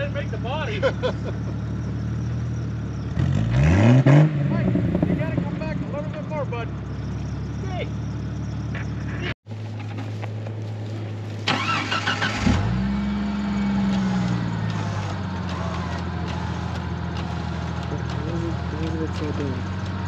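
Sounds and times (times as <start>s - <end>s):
engine cranking and revving: 0.0s - 9.2s, 11.4s - 20.0s
engine humming: 0.0s - 20.0s.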